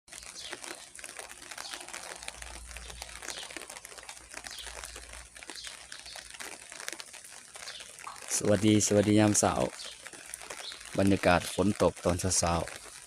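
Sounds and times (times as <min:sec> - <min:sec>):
light rain dripping: 0:00.1 - 0:13.0.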